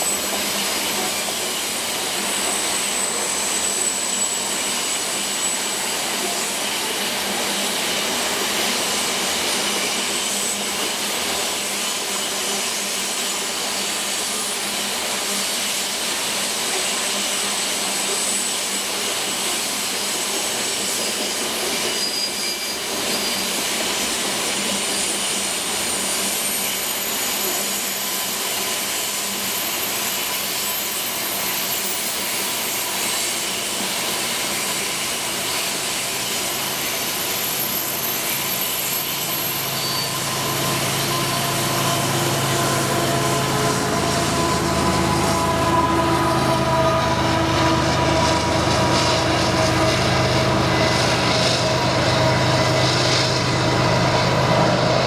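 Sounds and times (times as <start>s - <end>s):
freight train wheels rolling: 0.0s - 55.0s
high wheel squeals: 0.0s - 55.0s.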